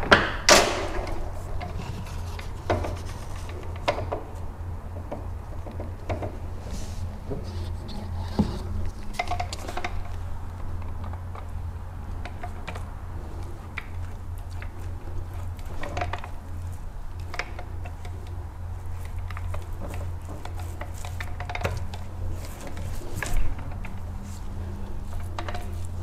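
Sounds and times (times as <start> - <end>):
steady low hum: 0.0 - 26.0
paint roller rolling wet primer: 1.1 - 4.6, 5.2 - 26.0.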